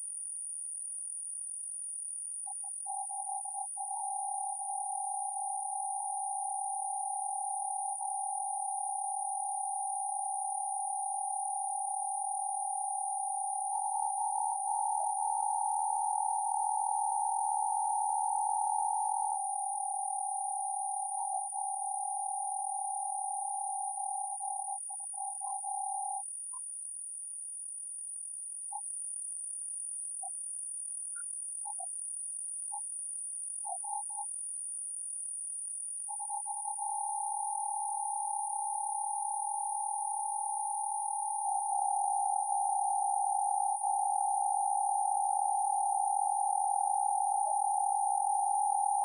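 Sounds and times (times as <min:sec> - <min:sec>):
faint high-pitched whine: 0:00.0 - 0:34.4, 0:35.2 - 0:49.0.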